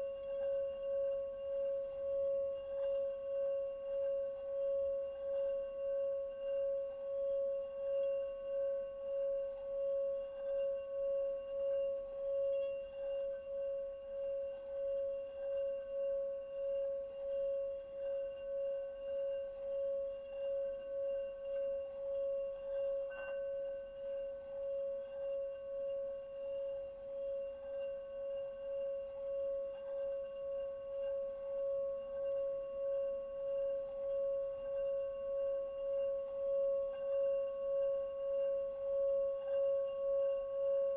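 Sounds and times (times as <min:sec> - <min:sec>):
singing bowl ringing: 0:00.0 - 0:40.9.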